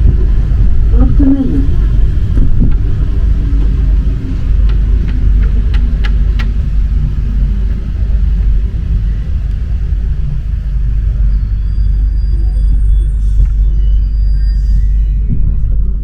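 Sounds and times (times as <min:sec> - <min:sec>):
train running with low rumble: 0:00.0 - 0:16.0.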